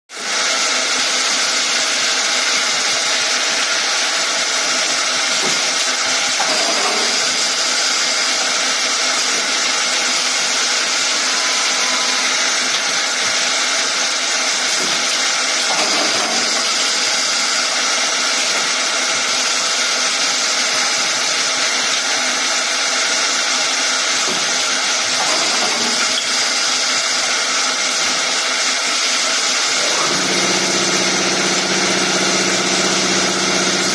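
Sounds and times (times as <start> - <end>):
woodworking machine whine and hiss: 0.2 - 33.9.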